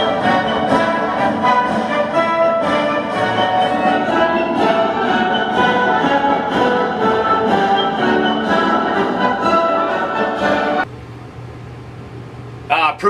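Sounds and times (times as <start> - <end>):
orchestral music: 0.0 - 10.9.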